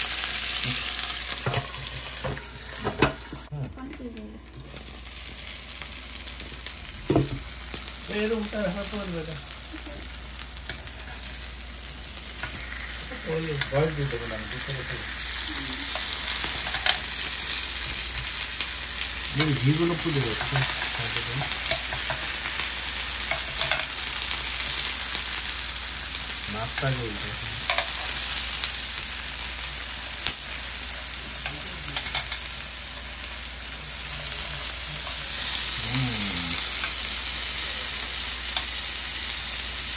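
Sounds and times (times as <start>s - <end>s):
food sizzling on grill pan: 0.0s - 39.9s.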